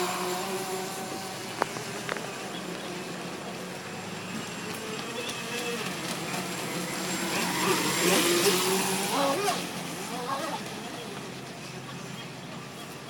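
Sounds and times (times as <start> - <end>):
model boat motor humming: 0.0 - 13.0.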